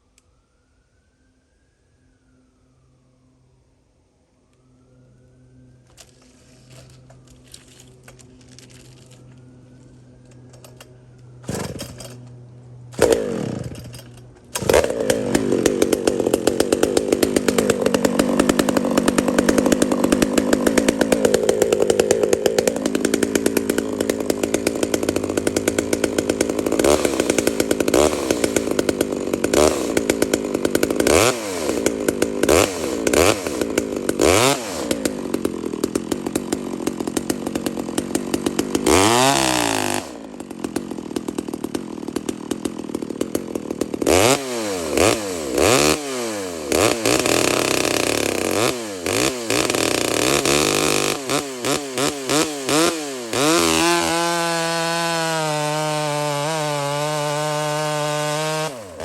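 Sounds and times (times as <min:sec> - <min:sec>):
chainsaw cutting wood: 0:05.9 - 0:09.5, 0:10.4 - 0:59.0
chainsaw pull-start firing: 0:10.4 - 0:59.0.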